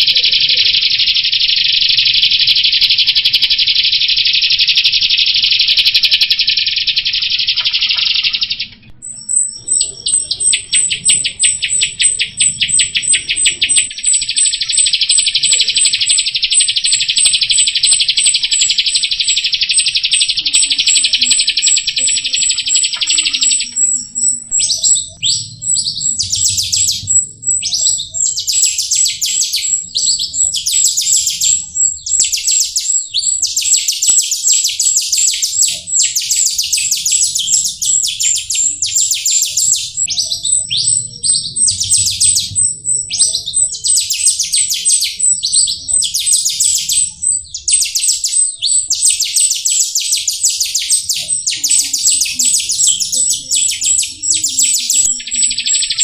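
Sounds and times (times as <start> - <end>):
starling chattering song: 0.0 - 56.0.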